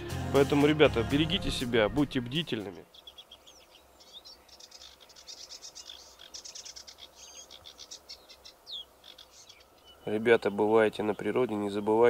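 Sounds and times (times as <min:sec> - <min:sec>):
birds singing: 0:01.4 - 0:12.0.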